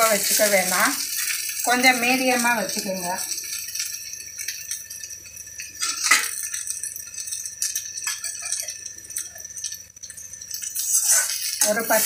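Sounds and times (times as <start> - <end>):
food sizzling in a pan: 0.0 - 12.0
oil crackles and pops: 0.0 - 12.0.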